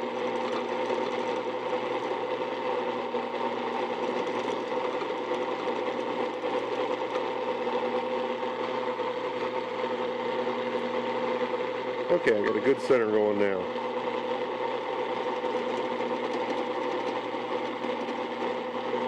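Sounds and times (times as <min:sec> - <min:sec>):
drill press humming: 0:00.0 - 0:19.0.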